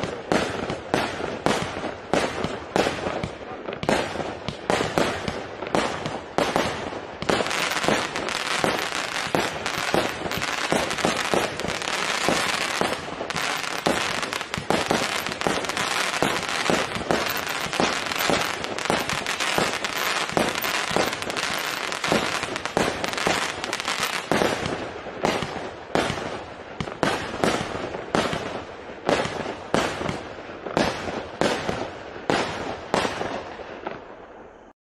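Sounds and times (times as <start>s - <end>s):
firework cake bangs: 0.0s - 33.4s.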